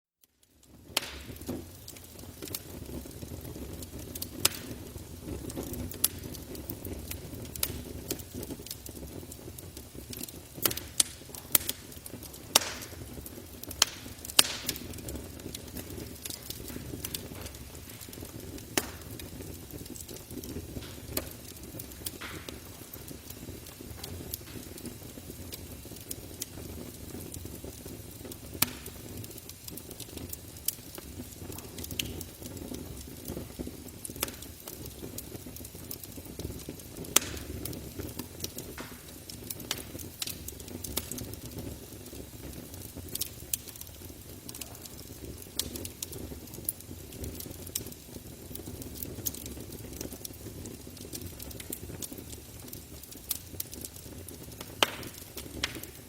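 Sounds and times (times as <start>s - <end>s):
burning wood crackling and popping: 0.2s - 56.0s
low rumble of flames: 0.2s - 56.0s.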